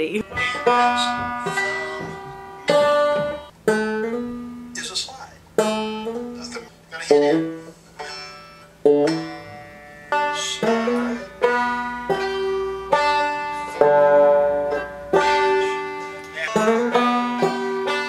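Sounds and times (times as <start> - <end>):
banjo chords strummed: 0.0 - 18.0.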